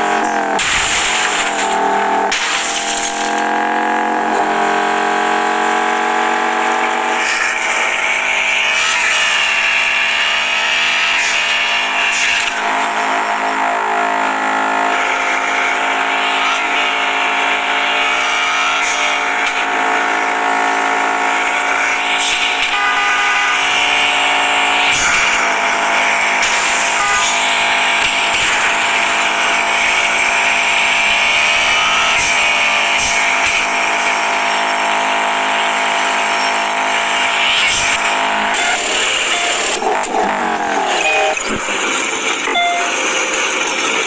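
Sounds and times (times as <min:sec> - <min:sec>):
car engine running while driving: 0:00.0 - 0:44.0.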